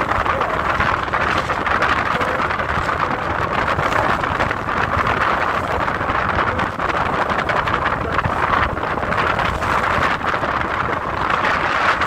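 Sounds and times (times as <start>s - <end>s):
boat engine rumble: 0.0s - 12.0s
rushing water: 0.0s - 12.0s
wind: 0.0s - 12.0s.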